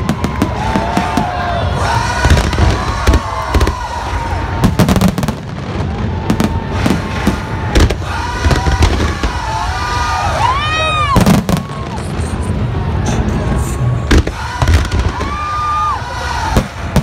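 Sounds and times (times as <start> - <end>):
constant rumbling din: 0.0 - 17.0
fireworks bangs and crackles: 0.0 - 17.0
whistling fireworks: 0.0 - 17.0.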